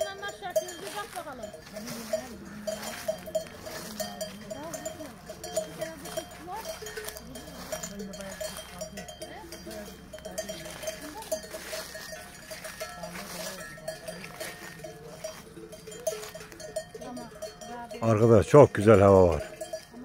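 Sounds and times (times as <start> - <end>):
cattle bells clanking: 0.0 - 20.0.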